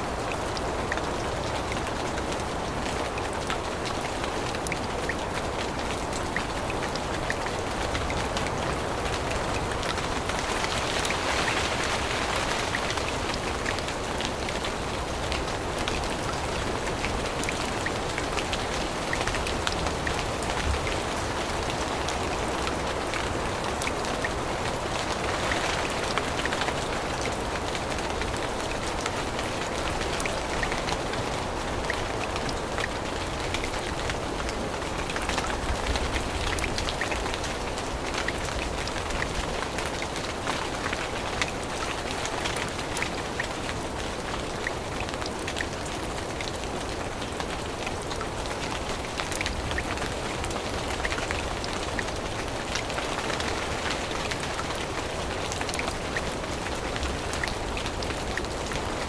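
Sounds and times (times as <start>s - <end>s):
rain falling on foliage: 0.0s - 59.0s
raindrops ticking close by: 0.0s - 59.0s.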